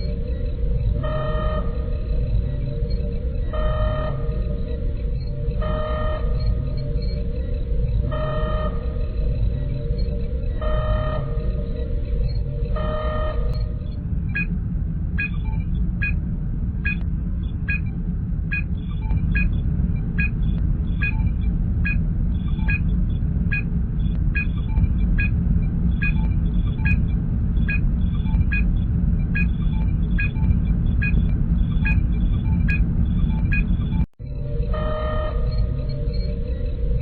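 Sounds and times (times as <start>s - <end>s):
low engine hum: 0.0s - 37.0s.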